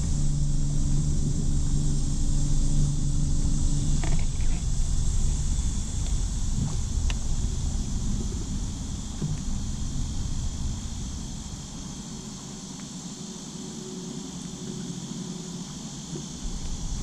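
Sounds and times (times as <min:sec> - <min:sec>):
low rumble: 0:00.0 - 0:12.8, 0:15.6 - 0:17.0
high insect buzz: 0:00.0 - 0:17.0.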